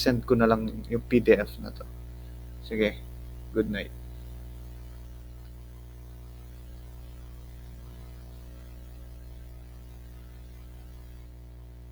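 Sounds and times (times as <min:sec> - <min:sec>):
faint hiss: 0:00.0 - 0:11.3
electrical mains hum: 0:00.0 - 0:11.9.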